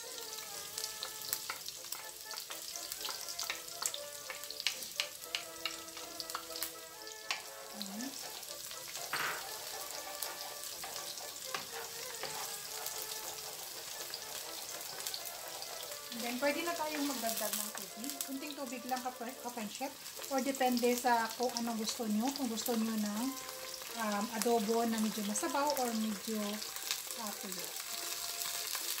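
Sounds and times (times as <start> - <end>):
garlic and onion sizzling in oil: 0.0 - 29.0.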